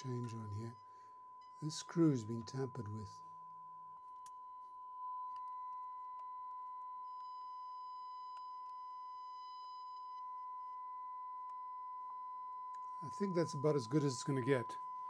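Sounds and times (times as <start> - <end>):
steady test tone through radio speaker: 0.0 - 15.0.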